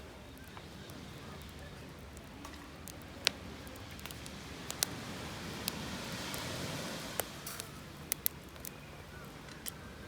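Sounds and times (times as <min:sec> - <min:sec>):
campfire crackling and popping: 0:00.2 - 0:10.0.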